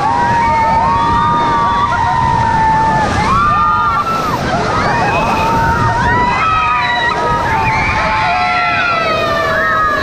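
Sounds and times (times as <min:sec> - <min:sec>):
people screaming and whooping: 0:00.0 - 0:10.0
whitewater rushing: 0:00.0 - 0:10.0.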